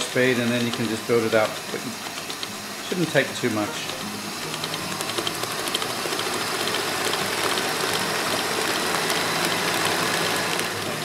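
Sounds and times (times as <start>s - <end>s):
stand mixer running: 0.0s - 11.0s.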